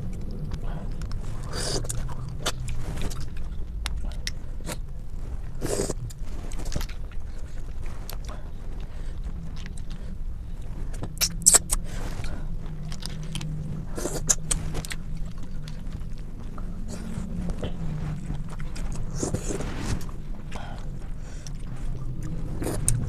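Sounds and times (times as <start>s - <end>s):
chewing with clicks and smacks: 0.0s - 23.0s
steady low hum: 0.0s - 23.0s.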